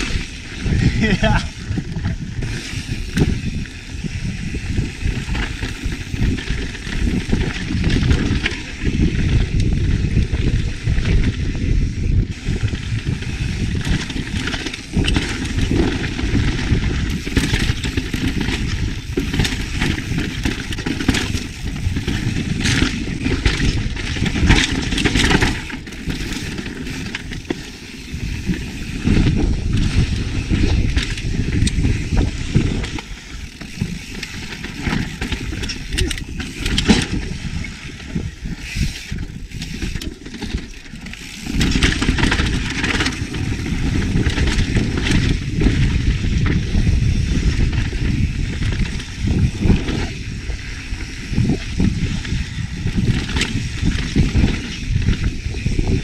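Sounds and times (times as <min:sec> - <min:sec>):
bike rattling: 0:00.0 - 0:56.0
wind buffeting microphone: 0:00.0 - 0:56.0.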